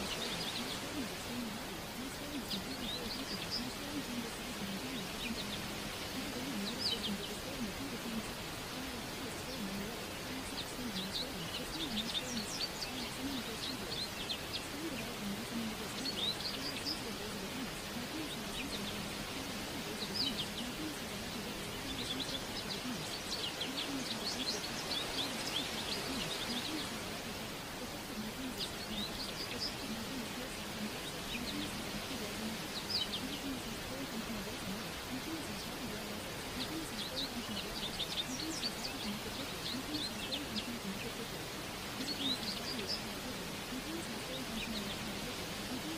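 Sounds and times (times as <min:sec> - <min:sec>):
birds chirping and singing: 0:00.0 - 0:45.9
faint low murmur: 0:00.0 - 0:45.9
steady background hiss: 0:00.0 - 0:45.9.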